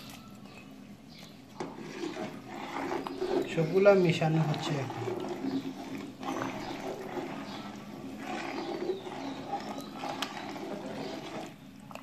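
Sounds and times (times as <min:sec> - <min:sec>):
spoon stirring in a metal pot: 0:01.3 - 0:12.0
liquid sloshing: 0:01.5 - 0:12.0.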